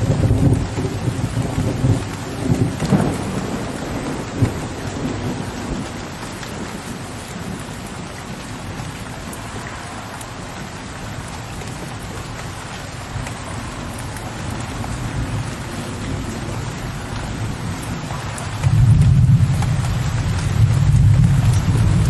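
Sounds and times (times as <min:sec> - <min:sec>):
distant thunder rumble: 0:00.0 - 0:09.7, 0:11.5 - 0:22.0
rain patter: 0:00.0 - 0:22.0.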